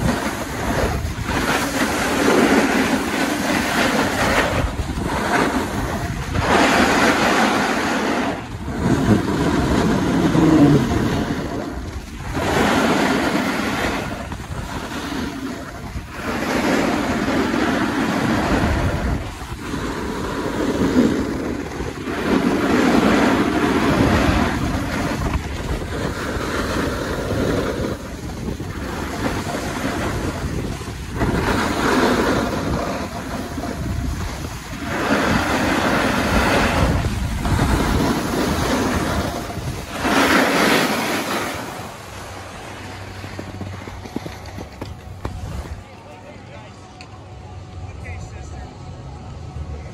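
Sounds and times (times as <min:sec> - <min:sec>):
wind rushing over microphone: 0:00.0 - 0:46.0
skis carving snow: 0:00.0 - 0:46.2.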